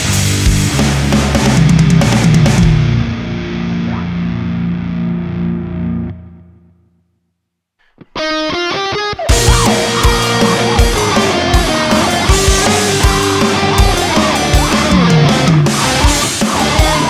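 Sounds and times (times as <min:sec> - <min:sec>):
heavy metal band music: 0:00.0 - 0:06.3, 0:08.1 - 0:17.0
distorted guitar chord ringing: 0:00.0 - 0:07.2, 0:08.1 - 0:17.0
bright clean guitar notes: 0:01.3 - 0:07.0, 0:07.8 - 0:17.0.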